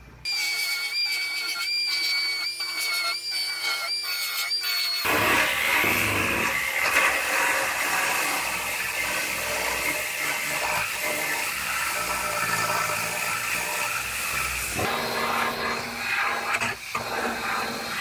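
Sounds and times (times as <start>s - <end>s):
belt sander grinding sheet metal: 0.3s - 18.0s
pneumatic air saw buzzing: 0.3s - 18.0s.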